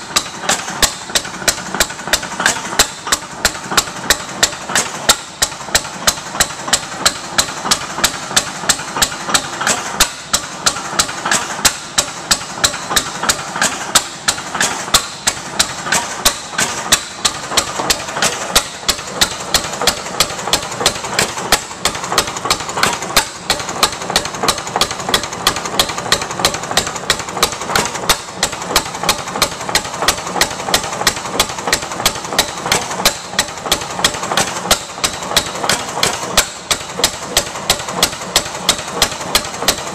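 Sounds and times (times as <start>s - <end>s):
gas engine clacking: 0.0s - 39.9s.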